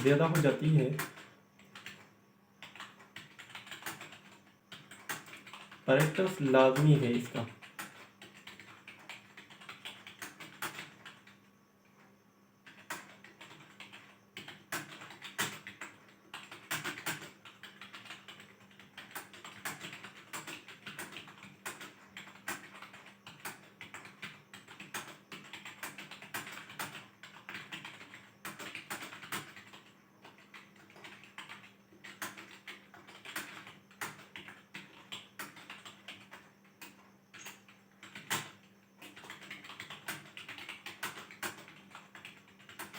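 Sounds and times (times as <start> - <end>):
computer keyboard typing: 0.0 - 11.4, 12.6 - 42.9.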